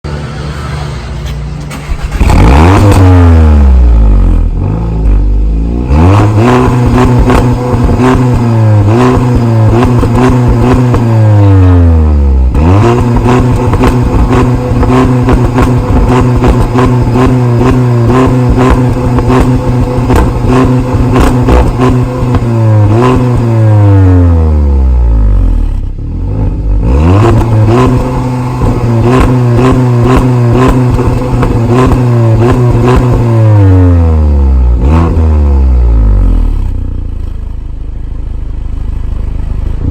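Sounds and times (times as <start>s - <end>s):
car engine starting and revving: 0.0s - 37.4s.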